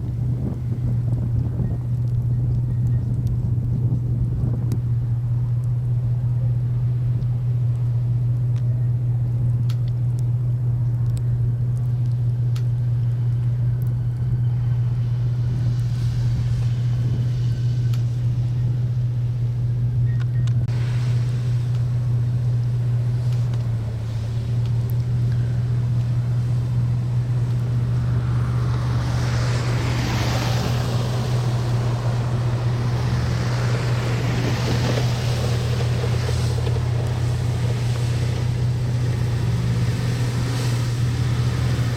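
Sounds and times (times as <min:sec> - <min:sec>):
vehicle engine droning: 0:00.0 - 0:41.9.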